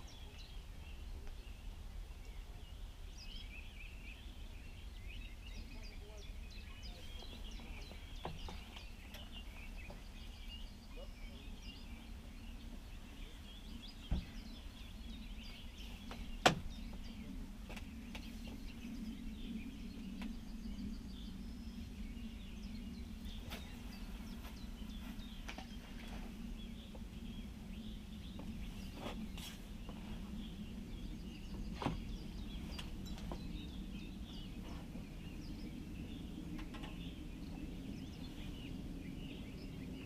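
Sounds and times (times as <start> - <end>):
songbirds chirping: 0.0 - 40.0
steady low hum: 0.0 - 40.0.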